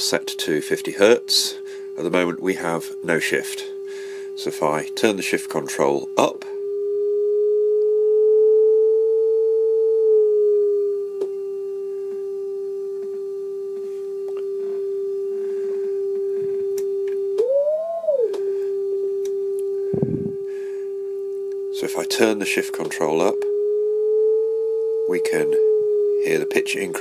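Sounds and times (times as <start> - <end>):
sine-wave tone swooping: 0.0 - 27.0.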